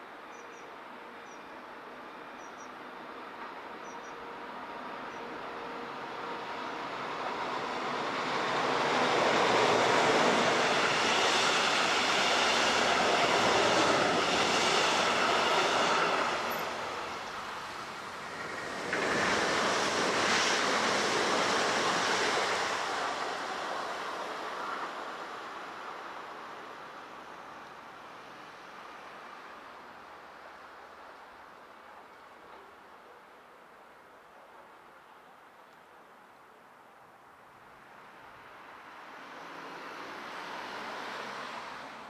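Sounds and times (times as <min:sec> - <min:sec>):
electric train passing: 0:00.3 - 0:31.3, 0:37.8 - 0:42.0.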